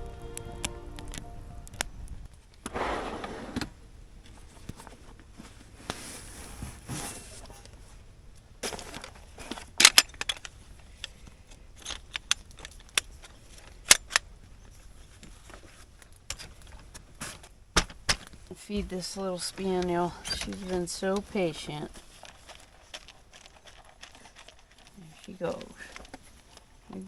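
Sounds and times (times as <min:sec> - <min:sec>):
rustle: 0:02.5 - 0:17.6, 0:18.3 - 0:27.0.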